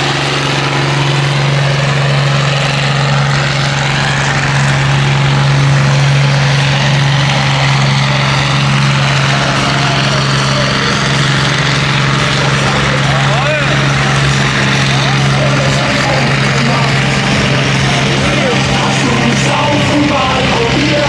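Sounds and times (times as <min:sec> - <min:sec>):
tractor engine running loud: 0:00.0 - 0:21.0.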